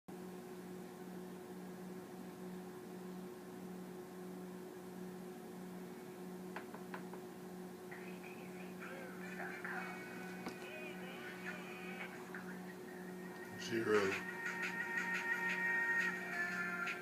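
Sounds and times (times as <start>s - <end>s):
steady electrical hum: 0.1s - 17.0s.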